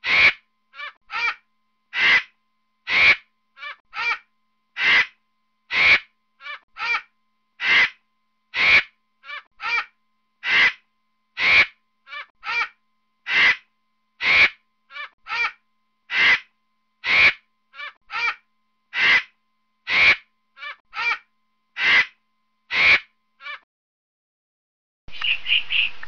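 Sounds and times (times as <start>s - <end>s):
bird cawing: 0.0s - 4.2s, 4.8s - 10.8s, 11.4s - 23.6s, 25.1s - 26.0s.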